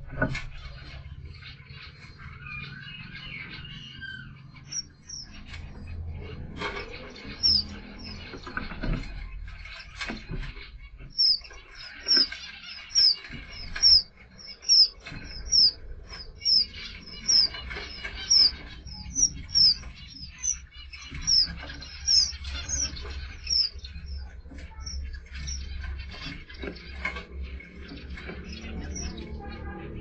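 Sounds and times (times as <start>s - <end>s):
finches chirping: 0.5s - 30.0s
soft twittering: 1.5s - 27.0s.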